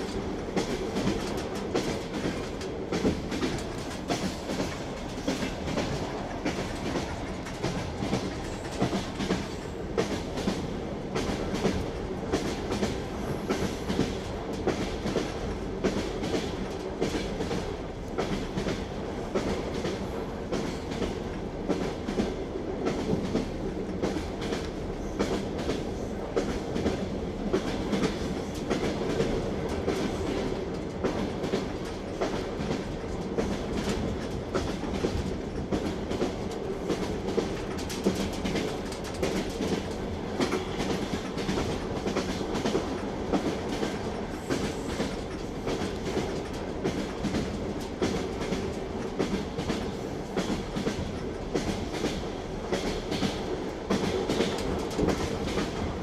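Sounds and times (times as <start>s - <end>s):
railway carriage rumble: 0.0s - 56.0s
train wheels clickety-clack: 0.0s - 56.0s.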